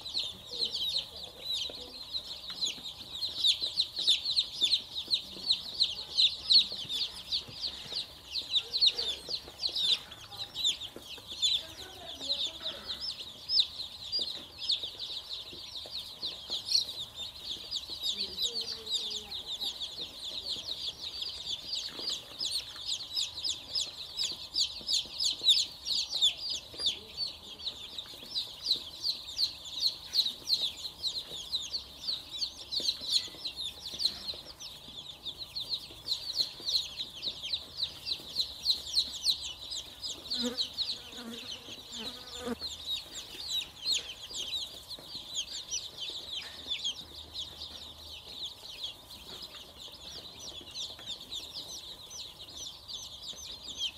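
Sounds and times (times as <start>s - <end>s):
baby chicks peeping: 0.0s - 53.9s.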